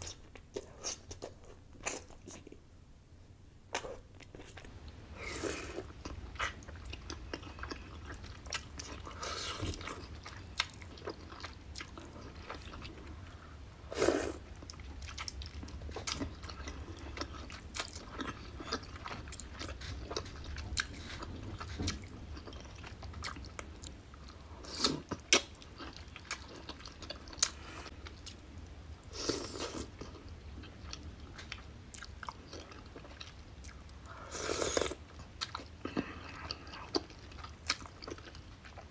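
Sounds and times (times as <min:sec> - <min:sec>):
person chewing and crunching food: 0:03.7 - 0:38.9.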